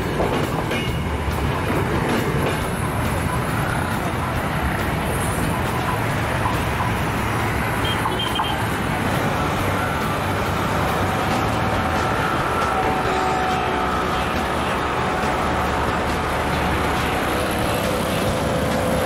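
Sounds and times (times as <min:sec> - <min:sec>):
road traffic: 0:00.0 - 0:19.0
train rumbling along track: 0:00.0 - 0:19.0.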